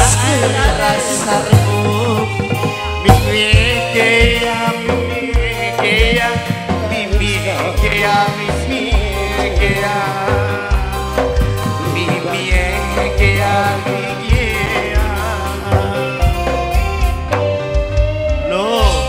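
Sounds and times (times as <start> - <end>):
drums beating: 0.0 - 19.0
gamelan instruments: 0.0 - 19.0.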